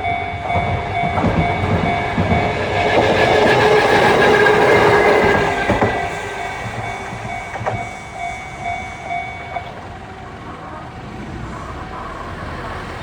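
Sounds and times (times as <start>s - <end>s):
pulsing level crossing bell: 0.0s - 10.5s
electric train running: 0.0s - 13.0s.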